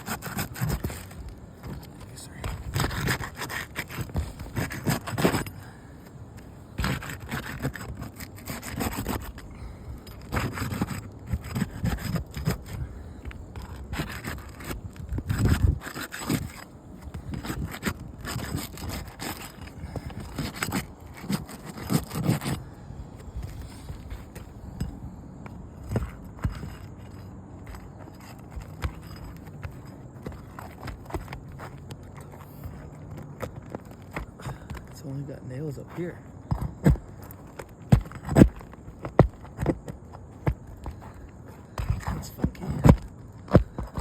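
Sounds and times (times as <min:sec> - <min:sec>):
scraping on roof shingles: 0:00.0 - 0:44.0.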